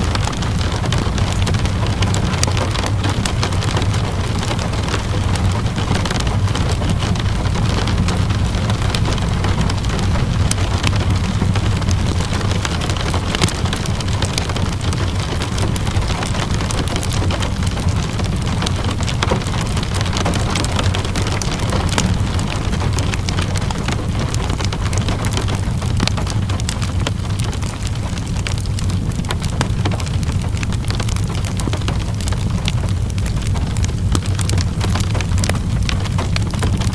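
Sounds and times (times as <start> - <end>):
low rumble: 0.0 - 36.9
steady rain: 0.0 - 36.9
wood fire crackling: 0.0 - 36.9.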